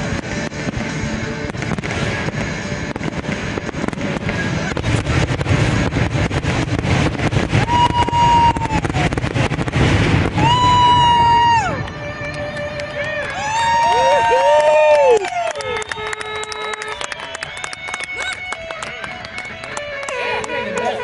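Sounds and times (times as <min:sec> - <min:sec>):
fireworks bursts and crackling: 0:00.0 - 0:21.0.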